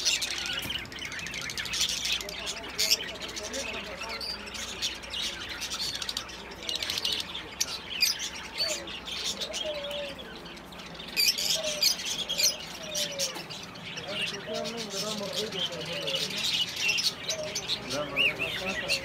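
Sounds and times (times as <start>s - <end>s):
caged birds chirping: 0.0s - 19.0s.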